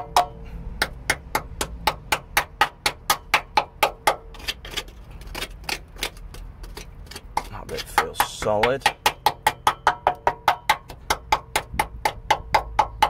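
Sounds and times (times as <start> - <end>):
screwdriver tapping on rusty metal: 0.0 - 4.8, 6.3 - 13.0.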